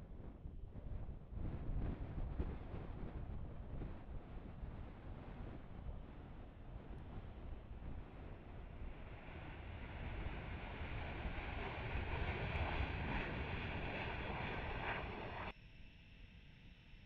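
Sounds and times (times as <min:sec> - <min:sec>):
jet engine rumble: 0:00.0 - 0:15.6.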